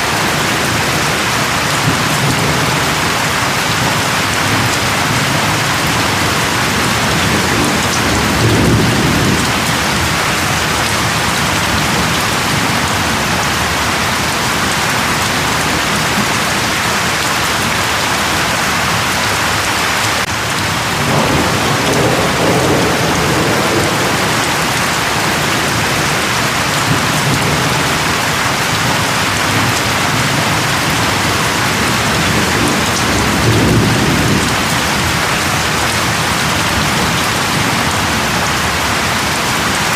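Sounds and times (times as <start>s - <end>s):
steady rain falling: 0.0s - 39.9s
low rumbles of thunder: 0.1s - 15.6s, 20.2s - 38.7s.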